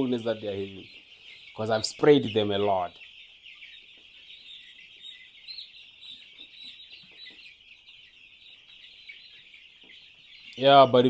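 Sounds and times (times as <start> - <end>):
chicks peeping in chorus: 0.0 - 11.0.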